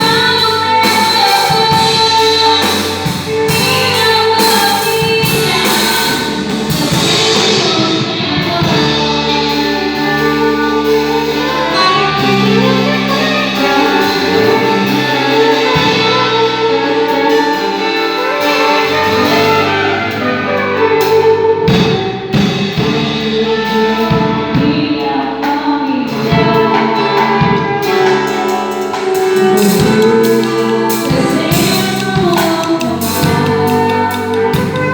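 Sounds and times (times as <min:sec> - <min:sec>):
band playing: 0:00.0 - 0:34.9
drum kit beat: 0:00.0 - 0:34.9
horns: 0:00.0 - 0:34.9
person singing: 0:00.0 - 0:34.9.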